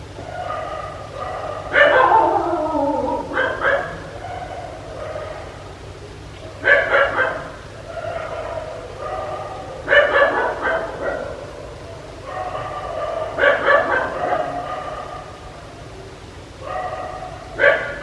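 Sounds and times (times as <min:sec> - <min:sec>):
dog barking: 0:00.2 - 0:02.4, 0:03.0 - 0:05.8, 0:06.5 - 0:15.7, 0:16.6 - 0:18.0
soft sustained dog sounds: 0:00.2 - 0:05.8, 0:06.5 - 0:15.8.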